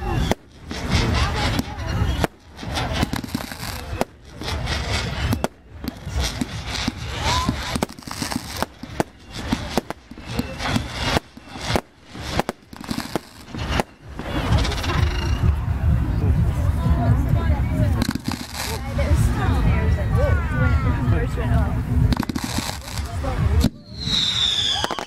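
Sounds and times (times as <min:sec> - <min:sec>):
fireworks bangs: 0:00.0 - 0:16.0, 0:17.3 - 0:19.8, 0:21.8 - 0:25.0.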